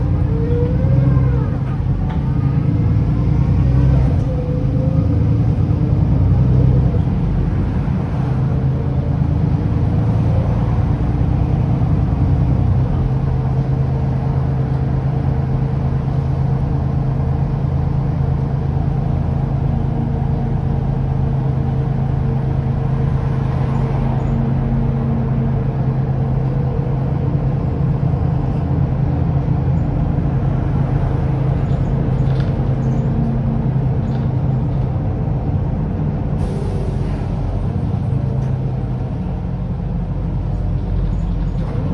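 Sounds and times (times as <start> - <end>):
bus engine running: 0.0 - 41.9.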